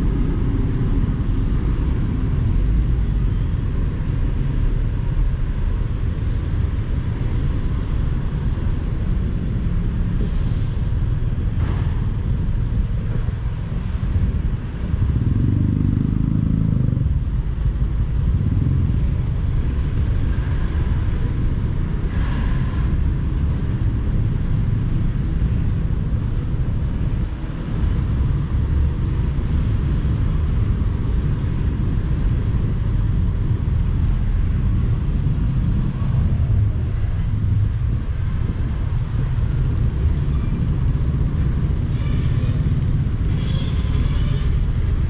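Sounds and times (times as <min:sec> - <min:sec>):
road noise: 0:00.0 - 0:45.0.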